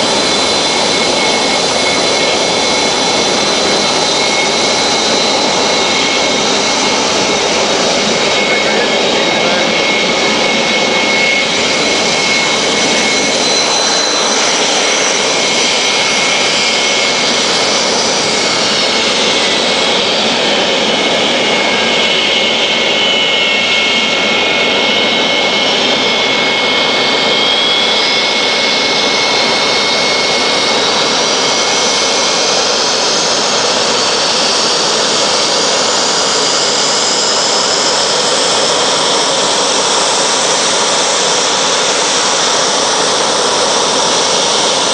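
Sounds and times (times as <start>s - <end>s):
jet engine roar with high whine: 0.0s - 44.9s.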